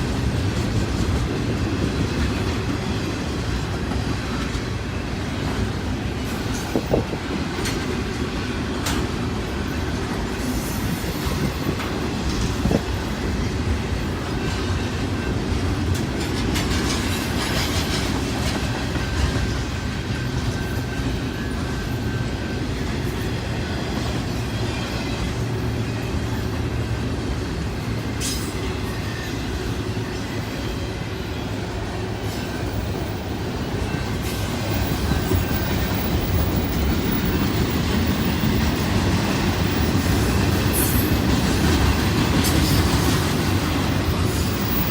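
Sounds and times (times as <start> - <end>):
steel wheels rumbling on rails: 0.0 - 44.9.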